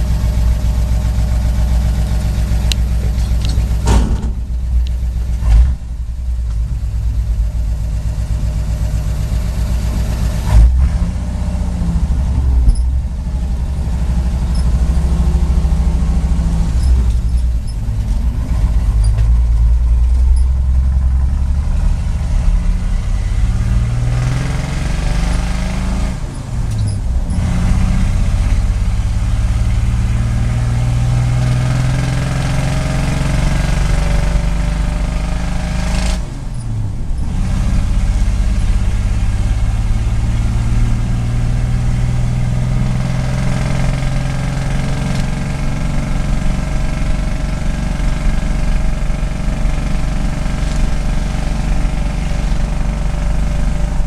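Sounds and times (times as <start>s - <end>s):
truck engine pulling under load: 0.0s - 54.0s.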